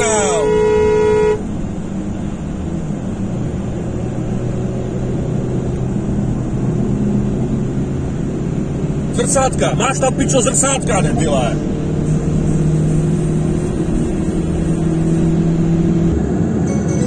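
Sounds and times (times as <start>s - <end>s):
low steady engine drone: 0.0s - 17.0s
road noise inside car: 0.0s - 17.0s.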